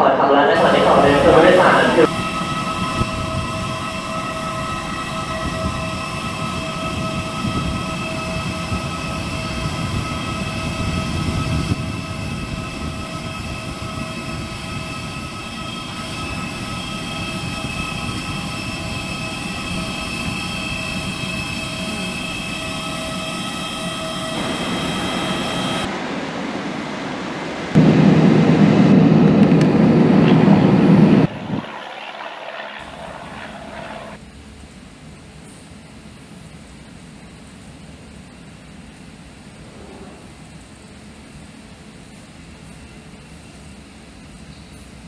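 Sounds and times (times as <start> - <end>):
parked airliner engine whine: 0.0 - 45.0.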